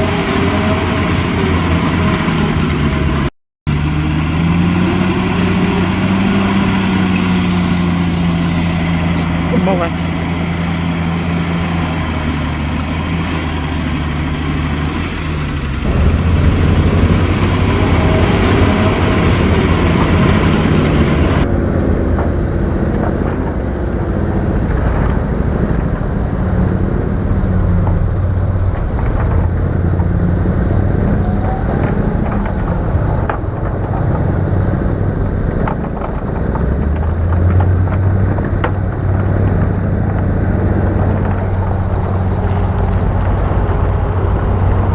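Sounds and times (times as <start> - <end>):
heavy diesel engine under load: 0.0 - 44.9.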